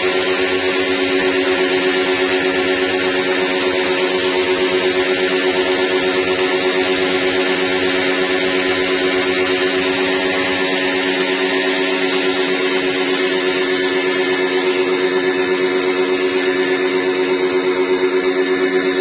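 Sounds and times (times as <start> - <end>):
pressure pump motor hum: 0.0 - 19.0.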